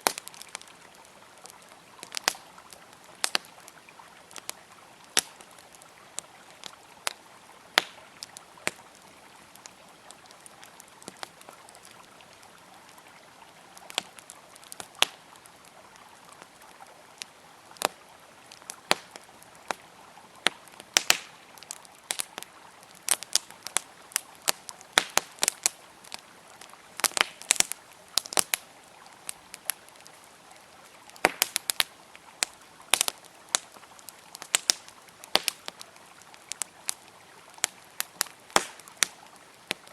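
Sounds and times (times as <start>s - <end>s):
campfire crackling: 0.0s - 39.9s
river flowing: 0.0s - 39.9s.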